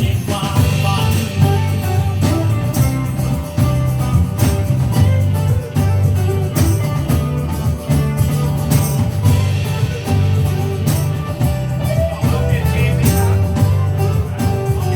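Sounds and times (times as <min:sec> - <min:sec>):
guitar: 0:00.0 - 0:14.9
heavy bass line: 0:00.0 - 0:14.9
steady drum beat: 0:00.0 - 0:14.9.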